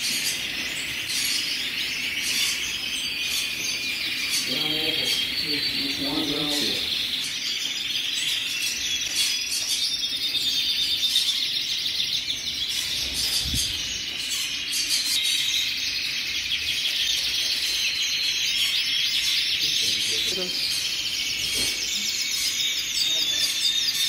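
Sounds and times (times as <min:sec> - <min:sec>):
canaries trilling: 0:00.0 - 0:24.0.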